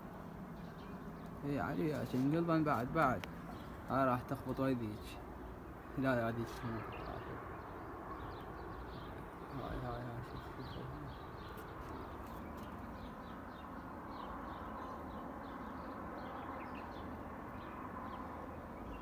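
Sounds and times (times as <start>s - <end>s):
small birds chirping: 0.0s - 19.0s
steady background hum: 0.0s - 19.0s.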